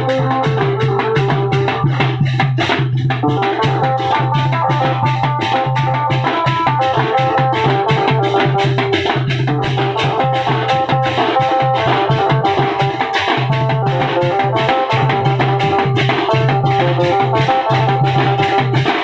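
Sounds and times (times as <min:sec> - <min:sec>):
drums in fast rhythm: 0:00.0 - 0:19.0
melody of held notes: 0:00.0 - 0:19.0.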